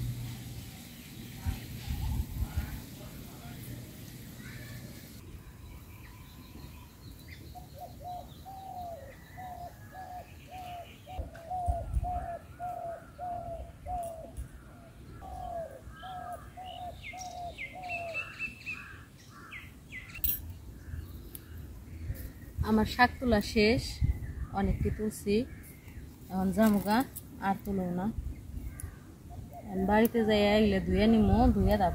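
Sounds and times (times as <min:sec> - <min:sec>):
small birds chirping: 0:00.6 - 0:31.9.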